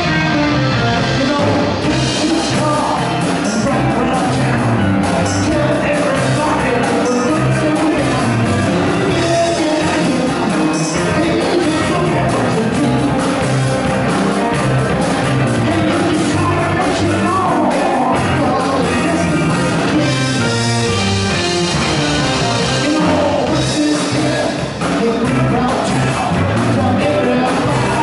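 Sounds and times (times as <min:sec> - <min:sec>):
blues band playing: 0:00.0 - 0:28.0.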